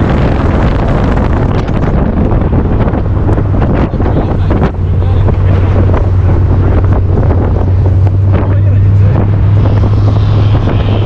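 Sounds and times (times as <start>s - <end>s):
car engine running: 0.0s - 11.0s
wind buffeting microphone: 0.0s - 11.0s.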